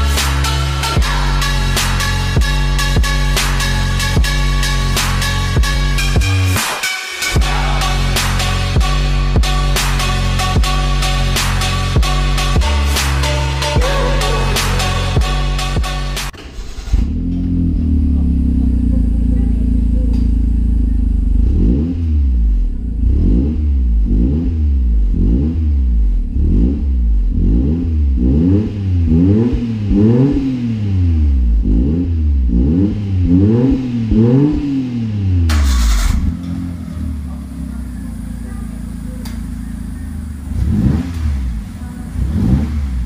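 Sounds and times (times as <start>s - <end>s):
car engine idling and revving: 0.0s - 43.0s.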